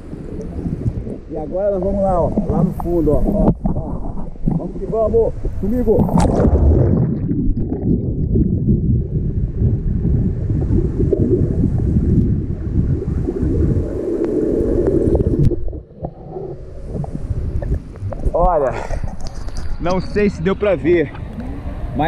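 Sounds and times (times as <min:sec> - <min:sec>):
muffled underwater water churning: 0:00.0 - 0:22.0.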